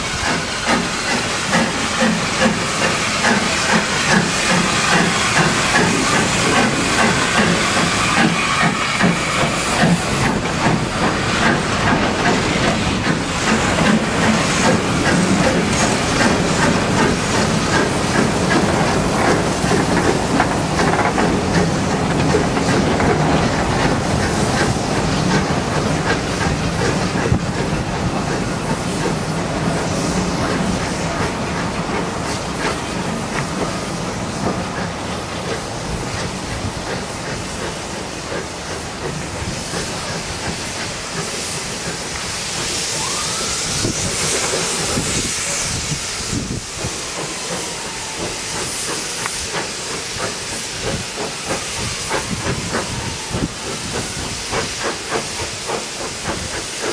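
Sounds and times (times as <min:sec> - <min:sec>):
steam hissing: 0:00.0 - 0:56.9
train wheels rumbling on rails: 0:00.0 - 0:56.9.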